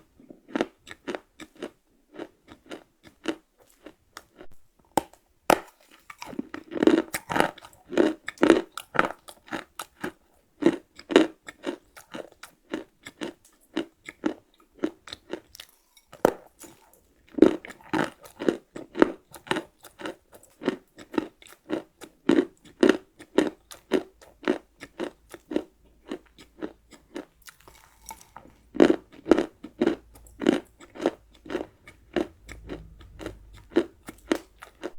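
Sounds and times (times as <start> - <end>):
chewing crunchy cookie: 0.0 - 34.9.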